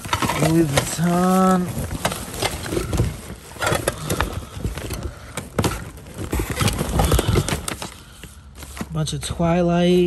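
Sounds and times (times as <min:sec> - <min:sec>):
rummaging in cardboard box: 0:00.0 - 0:10.0.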